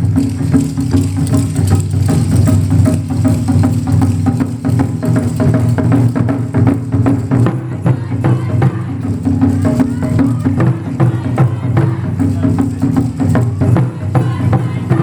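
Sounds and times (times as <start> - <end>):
taiko drums playing: 0.0 - 15.0.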